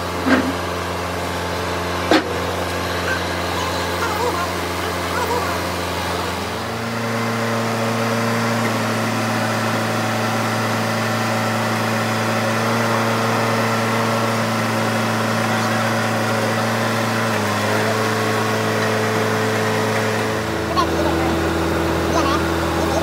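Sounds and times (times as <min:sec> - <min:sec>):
hydraulic press motor humming: 0:00.0 - 0:23.0.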